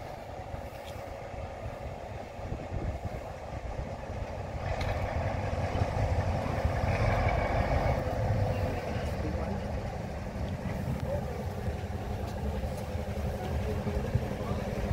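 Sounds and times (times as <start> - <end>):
diesel locomotive engine running: 0.0 - 14.9.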